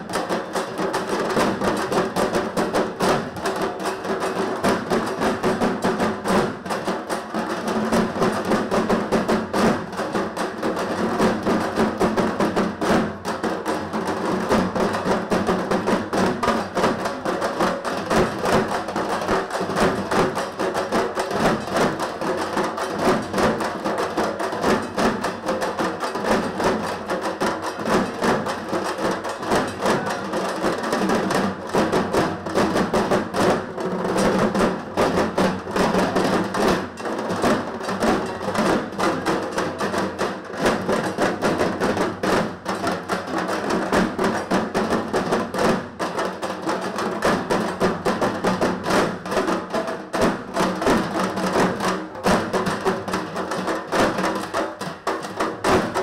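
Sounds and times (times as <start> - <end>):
barrel drums beaten with sticks: 0.0 - 56.0.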